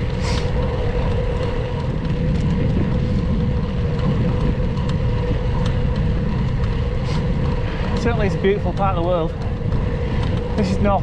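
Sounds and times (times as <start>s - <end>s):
bike tyres rolling on gravel: 0.0s - 11.0s
wind buffeting microphone: 0.0s - 11.0s.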